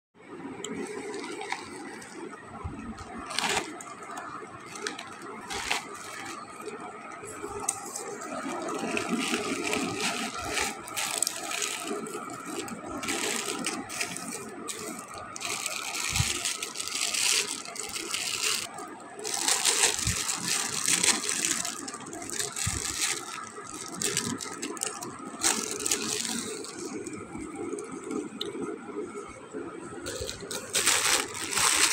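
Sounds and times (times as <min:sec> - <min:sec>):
plastic packaging crinkling: 0:00.6 - 0:29.2, 0:30.0 - 0:31.9.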